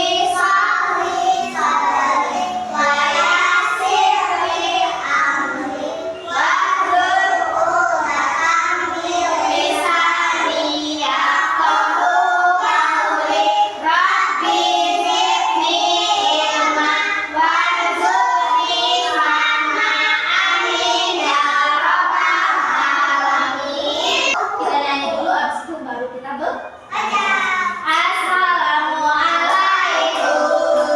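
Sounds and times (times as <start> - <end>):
children singing together: 0.0 - 25.2, 26.8 - 30.9.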